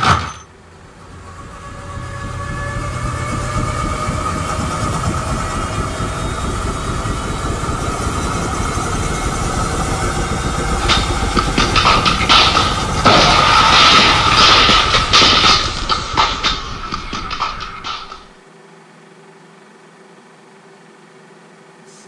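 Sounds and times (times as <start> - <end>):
machine rumbling and whirring: 0.0 - 22.0.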